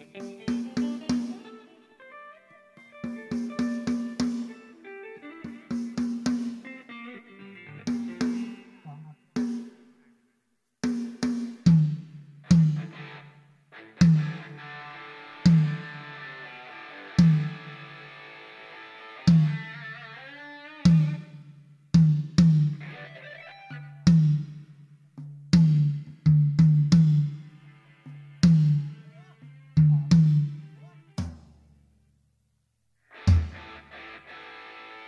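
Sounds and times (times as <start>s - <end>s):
drum strokes through pa: 0.0s - 1.7s, 2.8s - 6.9s, 7.8s - 10.2s, 10.8s - 13.3s, 14.0s - 18.2s, 19.1s - 20.2s, 20.8s - 32.0s, 33.1s - 34.2s.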